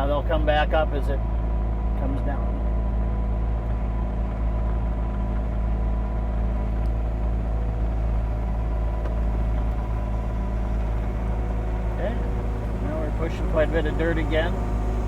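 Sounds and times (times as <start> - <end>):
diesel engine rumbling under load: 0.0 - 15.0.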